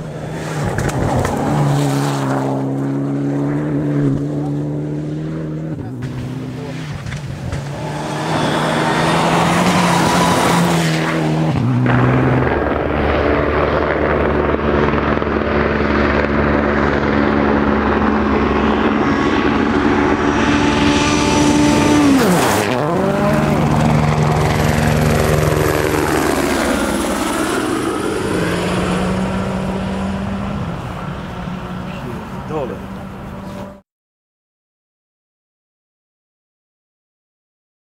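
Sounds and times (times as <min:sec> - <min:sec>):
another engine approaching: 0:00.0 - 0:33.8
rally car engine at full throttle: 0:00.0 - 0:33.8
turbo and transmission whine: 0:00.0 - 0:33.8.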